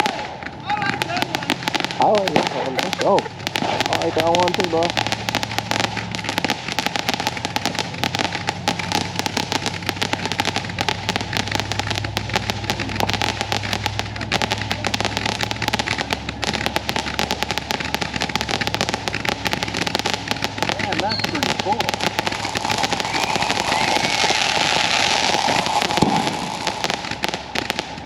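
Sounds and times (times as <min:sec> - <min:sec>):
fireworks cracking and popping: 0:00.0 - 0:28.0.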